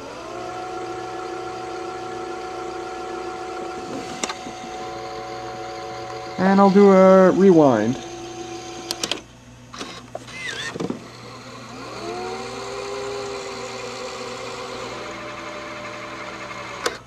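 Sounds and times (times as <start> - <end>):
reel motor whine: 0.0 - 17.0.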